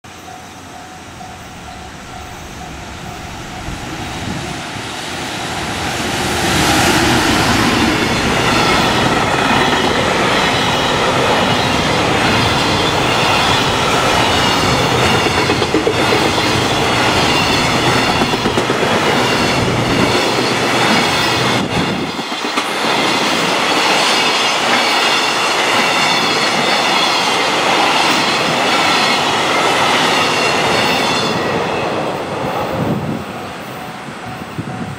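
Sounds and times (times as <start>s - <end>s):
freight train passing: 0.0s - 34.9s
train wheels on rails: 0.1s - 34.9s.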